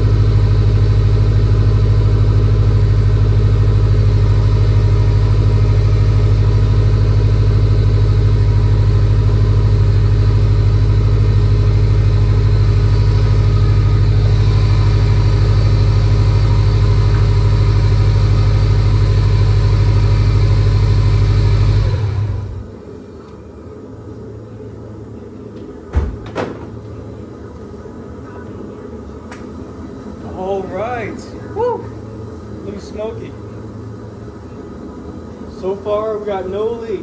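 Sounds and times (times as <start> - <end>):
car engine idling: 0.0 - 22.9, 29.6 - 37.0.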